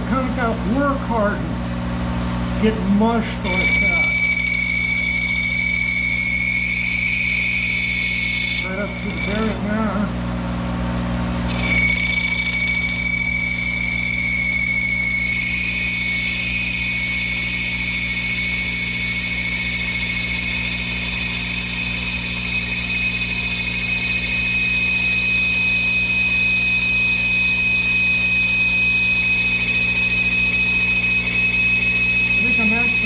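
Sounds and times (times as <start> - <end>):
lathe high-pitched whine: 3.4 - 10.2, 11.4 - 33.0.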